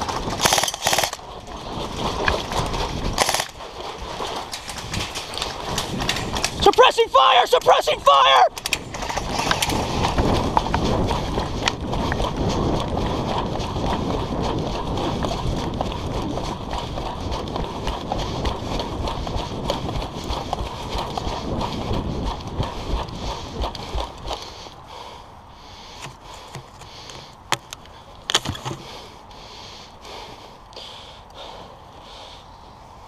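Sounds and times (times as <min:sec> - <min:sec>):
running footsteps: 0:00.0 - 0:29.1.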